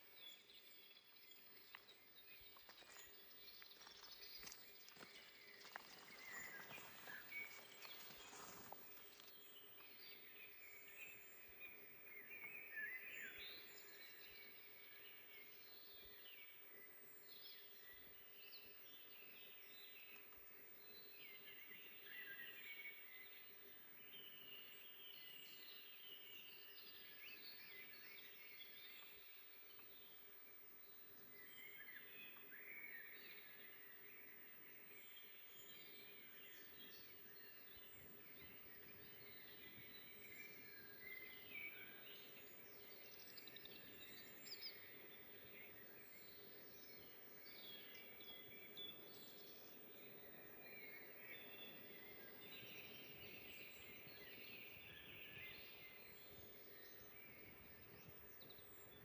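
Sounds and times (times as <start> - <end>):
soft forest background hiss: 0.0 - 59.0
songbirds chirping and trilling: 0.0 - 59.0.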